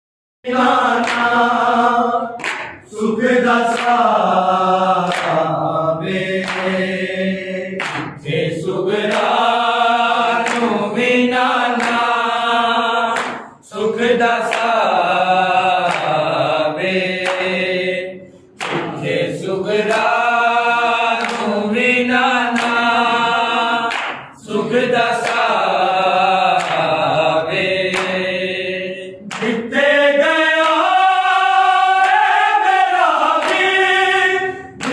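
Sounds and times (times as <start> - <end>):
men chanting in unison: 0.4 - 34.9.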